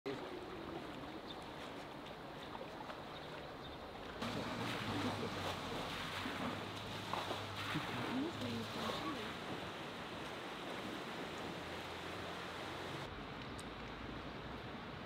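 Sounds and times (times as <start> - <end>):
water sloshing and splashing: 0.1 - 13.1.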